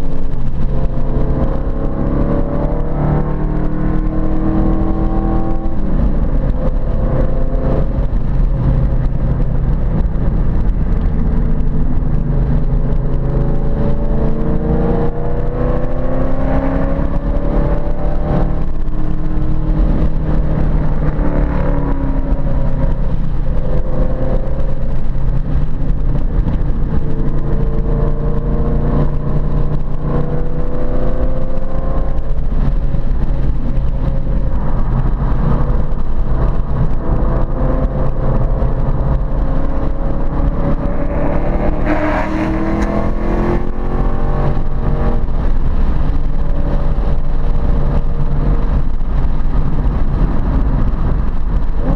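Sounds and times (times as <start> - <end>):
car engine accelerating: 0.0 - 51.9.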